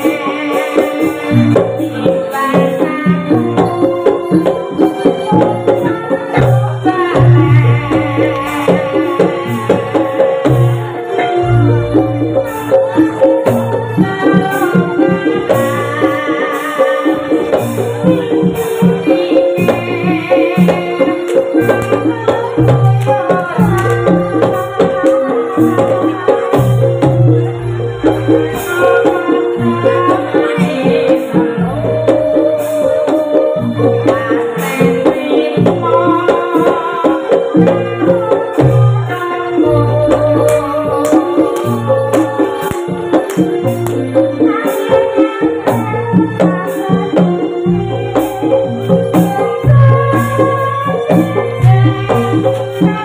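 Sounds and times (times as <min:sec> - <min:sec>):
drum strokes: 0:00.0 - 0:53.0
gamelan ensemble playing: 0:00.0 - 0:53.0.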